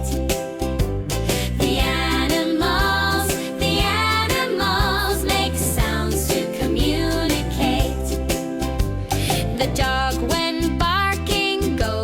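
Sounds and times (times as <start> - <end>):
upbeat children's music: 0.0 - 12.0.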